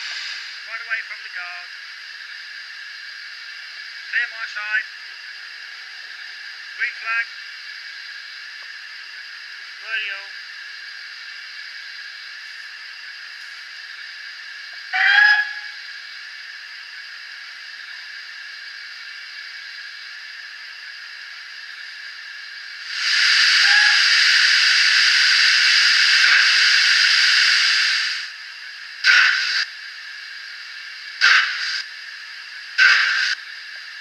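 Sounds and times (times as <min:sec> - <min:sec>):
steam locomotive hiss from small speaker: 0:00.0 - 0:34.0.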